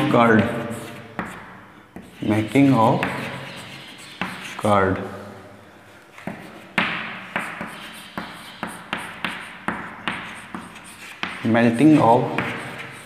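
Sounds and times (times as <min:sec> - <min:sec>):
chalk tapping and scratching: 0:00.0 - 0:04.7, 0:06.1 - 0:13.0.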